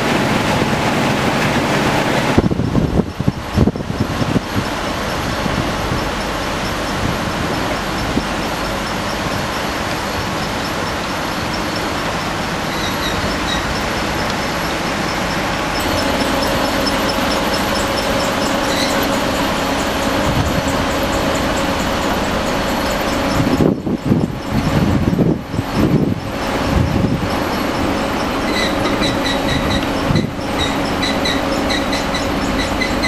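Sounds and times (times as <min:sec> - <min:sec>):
machine humming: 0:00.0 - 0:33.0
vibrating screens and conveyor belts: 0:00.0 - 0:33.0
fast regular ticking: 0:03.2 - 0:33.0.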